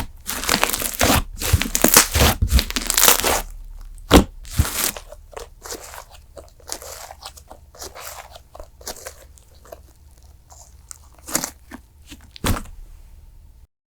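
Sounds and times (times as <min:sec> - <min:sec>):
slime crackling and popping: 0:00.0 - 0:12.7.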